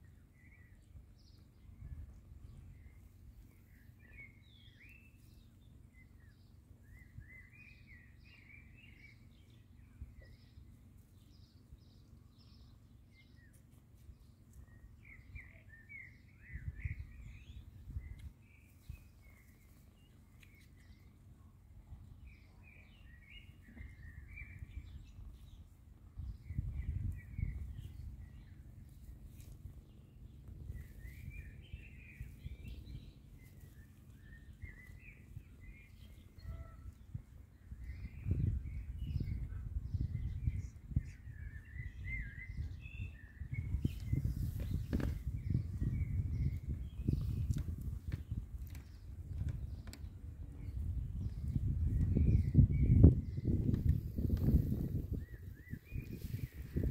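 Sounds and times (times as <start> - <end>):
outdoor background noise: 0.0 - 56.9
small birds chirping: 0.0 - 56.9.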